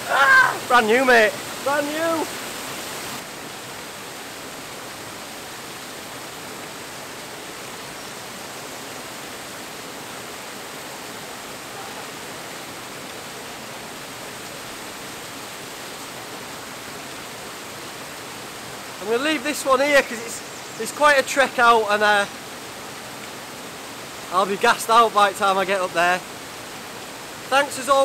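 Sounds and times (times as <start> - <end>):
waterfall rushing into a pool: 0.0 - 28.0.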